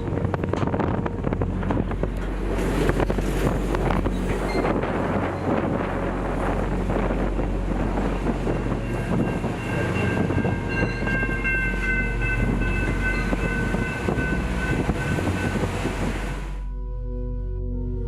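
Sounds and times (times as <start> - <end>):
train rumbling and rattling: 0.0 - 16.7.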